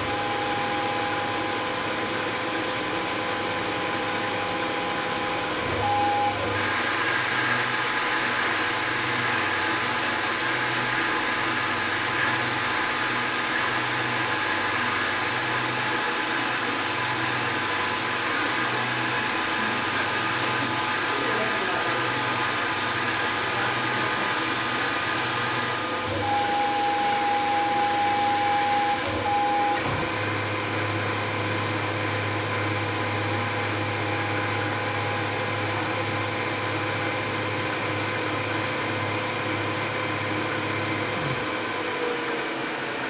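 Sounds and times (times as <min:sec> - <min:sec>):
milling machine hum and whine: 0:00.0 - 0:43.0.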